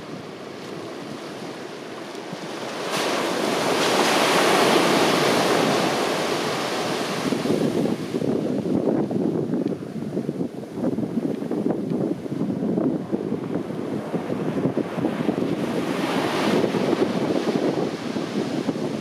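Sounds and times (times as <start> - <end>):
wave breaking on shore: 0.0 - 9.2, 12.4 - 19.0
wind buffeting microphone: 0.0 - 19.0.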